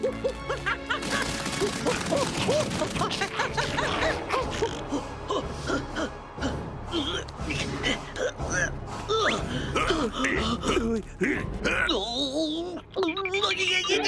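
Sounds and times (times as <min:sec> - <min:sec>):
busy cartoon music: 0:00.0 - 0:14.0.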